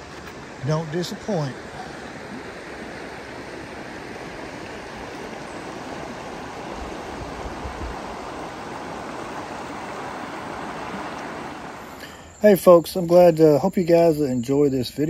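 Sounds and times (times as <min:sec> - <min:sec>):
river water rushing over rocks: 0:00.0 - 0:12.4.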